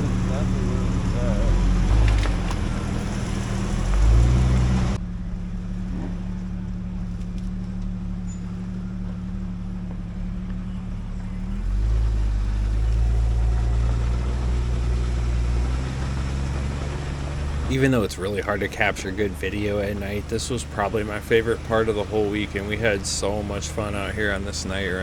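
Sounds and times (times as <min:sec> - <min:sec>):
deep engine rumble: 0:00.0 - 0:25.0
off-road vehicle engine humming: 0:00.0 - 0:25.0.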